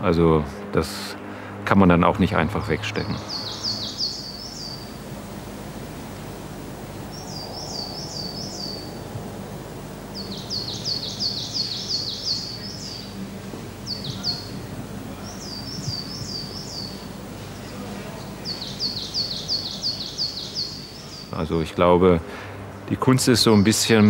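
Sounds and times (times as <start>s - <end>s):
low background hum: 0.0s - 24.0s
songbirds chirping: 0.0s - 24.0s.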